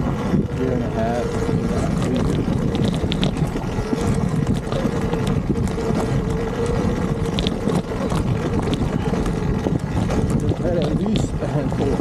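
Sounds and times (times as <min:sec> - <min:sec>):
electric motor whining: 0:00.0 - 0:12.0
rumble of tyres on trail: 0:00.0 - 0:12.0
wind on microphone: 0:00.0 - 0:12.0.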